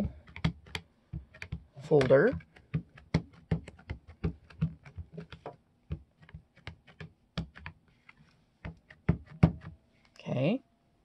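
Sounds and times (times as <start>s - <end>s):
ink pad tapping on plastic: 0.0s - 7.8s, 8.6s - 9.8s.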